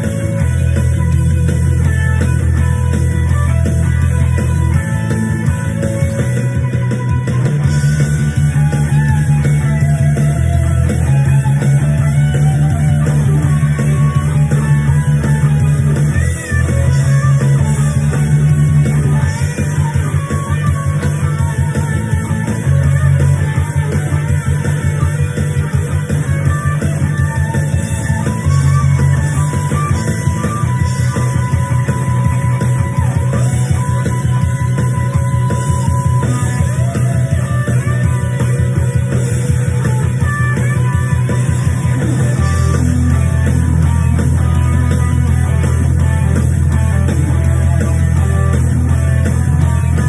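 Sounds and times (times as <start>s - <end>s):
bass and drums backing track: 0.0s - 50.0s
electric guitar rock lead: 0.0s - 50.0s.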